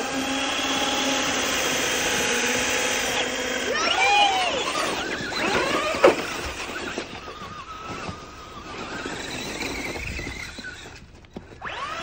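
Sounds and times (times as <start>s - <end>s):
electric rc car motors whining: 0.0s - 12.0s.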